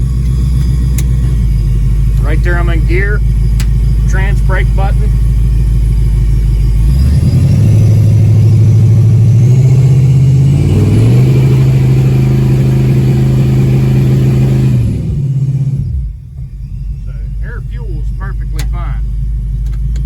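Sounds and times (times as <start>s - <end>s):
supercharged engine revving: 0.0s - 20.0s.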